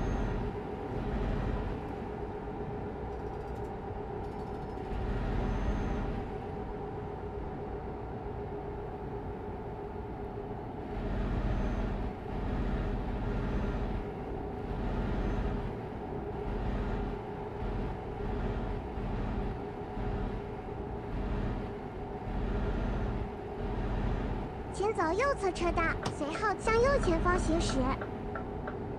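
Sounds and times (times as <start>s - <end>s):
vehicle road and engine noise: 0.0s - 28.9s.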